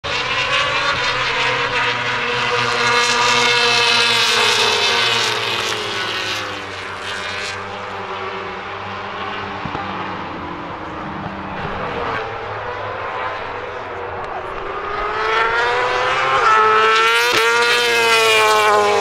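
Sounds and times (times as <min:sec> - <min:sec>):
distant motorcycles: 0:00.0 - 0:19.0
racing motorcycle passing at high revs: 0:00.0 - 0:19.0.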